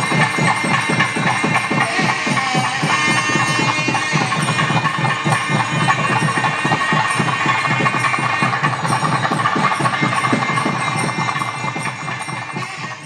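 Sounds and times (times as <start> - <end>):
fast driving drumming: 0.0 - 13.0
held high-pitched tones: 0.0 - 13.0.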